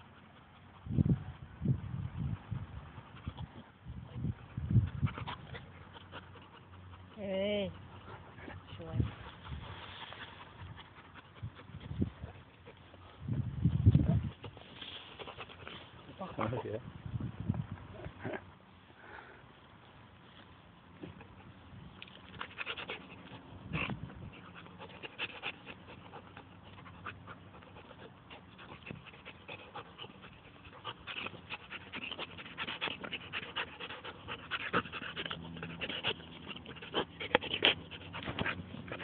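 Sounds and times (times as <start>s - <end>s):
dog panting: 0.0s - 1.0s, 2.1s - 16.8s, 22.3s - 39.0s.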